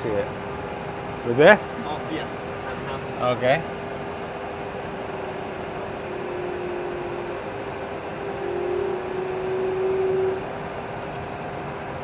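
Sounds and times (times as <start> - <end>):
jet engine drone with hiss: 0.0 - 12.0.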